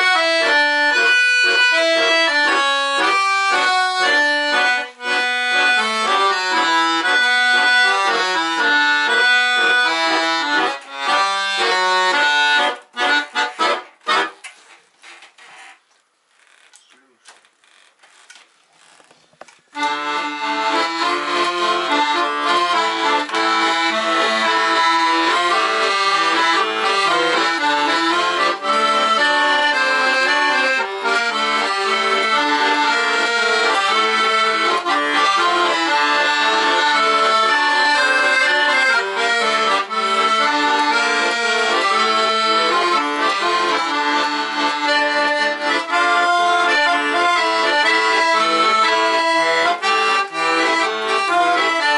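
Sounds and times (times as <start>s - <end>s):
button accordion playing: 0.0s - 14.4s, 19.8s - 51.9s.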